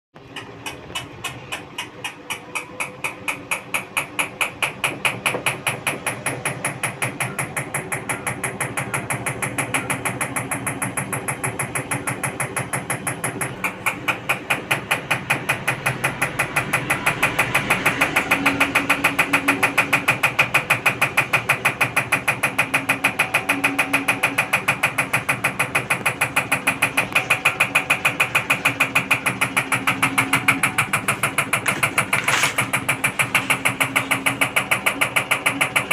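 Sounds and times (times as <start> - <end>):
washing machine knocking: 0.2 - 35.9.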